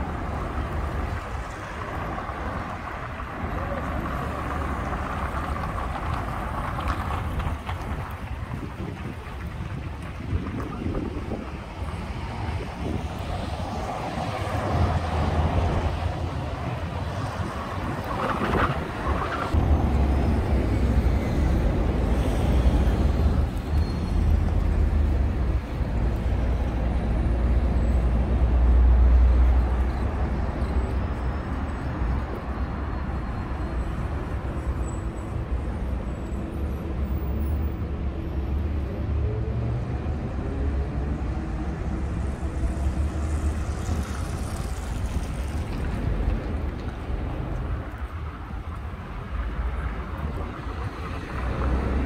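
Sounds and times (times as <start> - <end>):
vehicles passing with rumble: 0.0 - 52.0.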